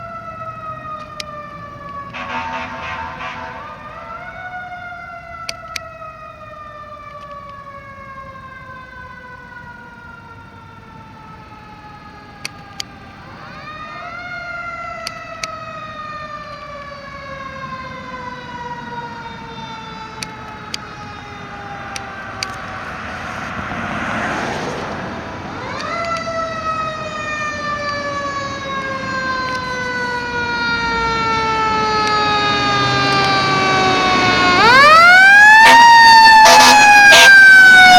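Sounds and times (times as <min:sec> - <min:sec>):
fire truck siren wailing: 0:00.0 - 0:37.9.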